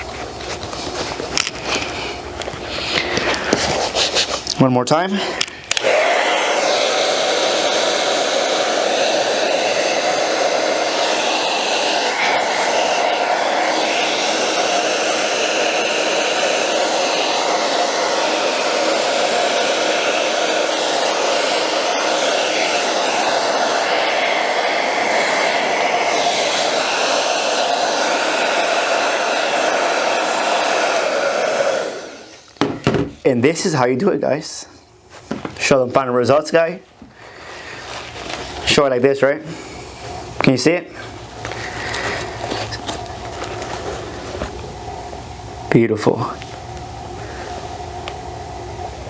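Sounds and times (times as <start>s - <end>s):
hair dryer running: 1.4s - 34.2s, 37.8s - 49.0s.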